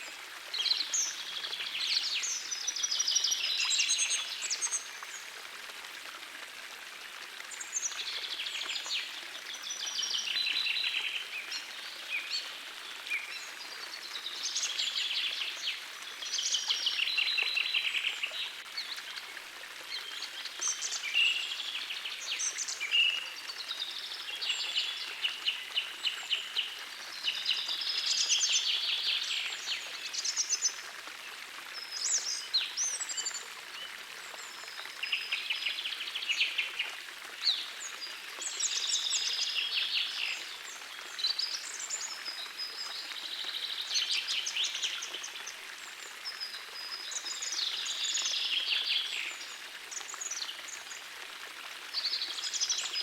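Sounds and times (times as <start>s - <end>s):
gentle stream rushing: 0.0s - 53.0s.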